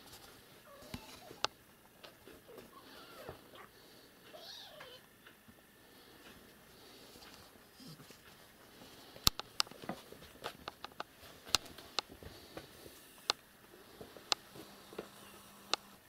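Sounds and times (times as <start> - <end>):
kittens play-fighting on mat: 0.0 - 15.9.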